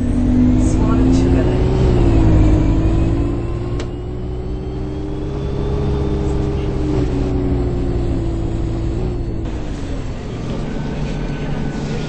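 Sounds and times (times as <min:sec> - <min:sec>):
bus running rumble and hum: 0:00.0 - 0:12.0
rising whine: 0:00.0 - 0:12.0.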